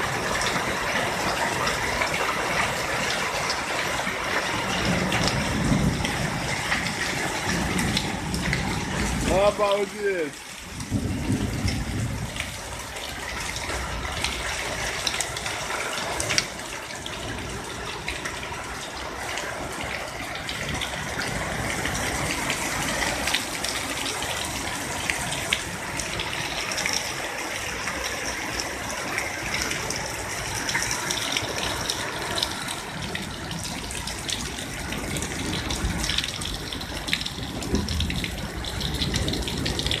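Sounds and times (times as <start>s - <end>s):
heavy rain rushing: 0.0s - 40.0s
water pouring and splashing: 0.0s - 40.0s.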